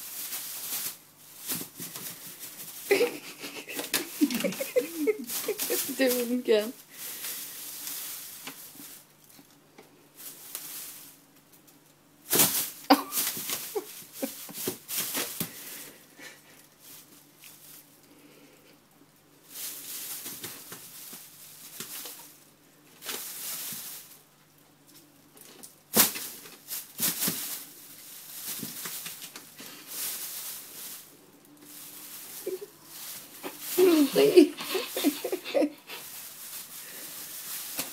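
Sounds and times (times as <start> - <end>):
plastic bag crinkling and rustling: 0.0 - 18.1, 19.4 - 37.9.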